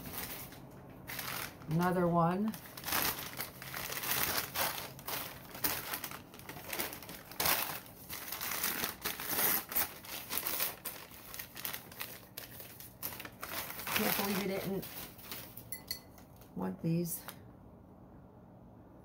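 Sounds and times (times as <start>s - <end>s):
newspaper crinkling: 0.0s - 15.7s.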